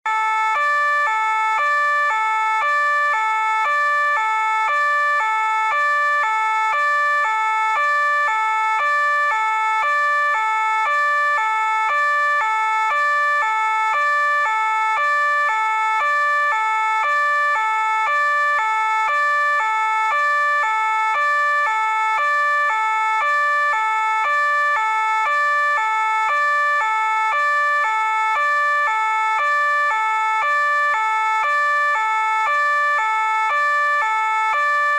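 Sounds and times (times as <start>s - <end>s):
two-tone police siren: 0.0s - 34.9s.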